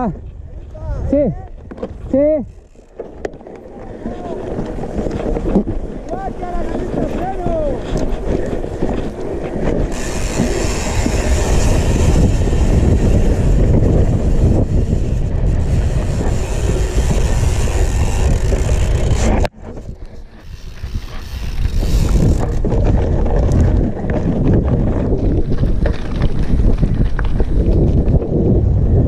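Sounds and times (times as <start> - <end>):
bike tyres rattling on rough ground: 0.0 - 29.0
wind buffeting microphone: 0.0 - 29.0.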